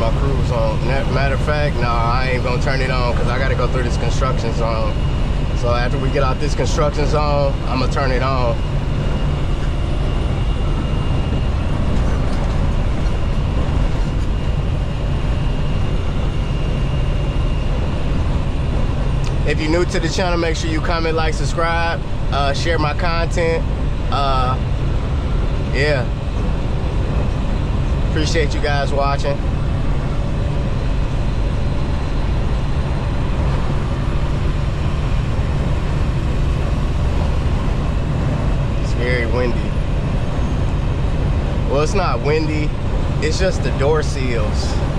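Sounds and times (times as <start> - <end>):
faint high whine: 0.0 - 44.9
truck engine and road drone: 0.0 - 44.9.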